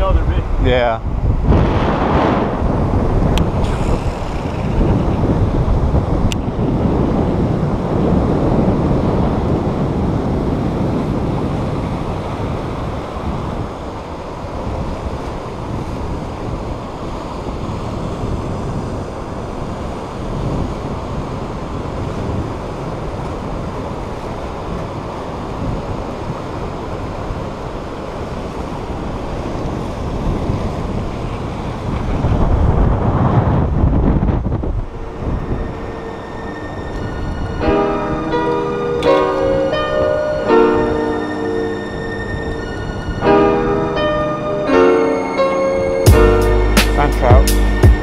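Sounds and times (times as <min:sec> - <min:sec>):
surf breaking and washing: 0:00.0 - 0:47.4
wind buffeting microphone: 0:00.0 - 0:48.0.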